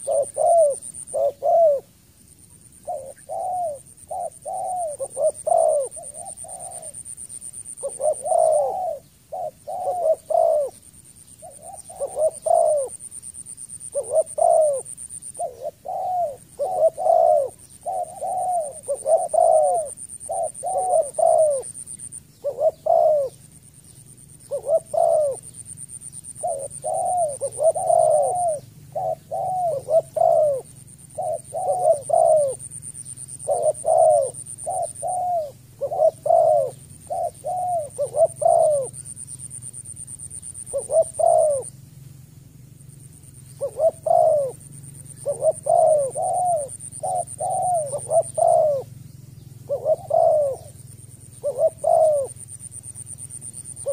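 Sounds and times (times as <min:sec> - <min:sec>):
dove cooing: 0:00.0 - 0:02.0, 0:02.6 - 0:53.9.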